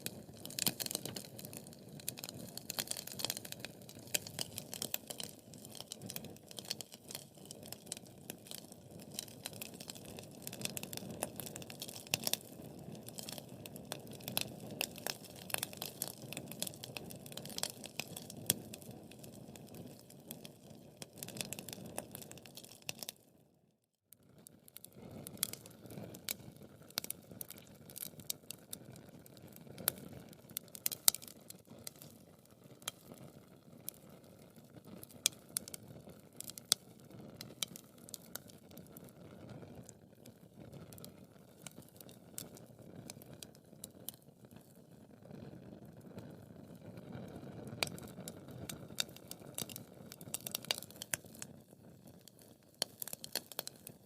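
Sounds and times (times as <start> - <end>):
wood fire crackling and popping: 0.0 - 23.3, 24.1 - 54.0.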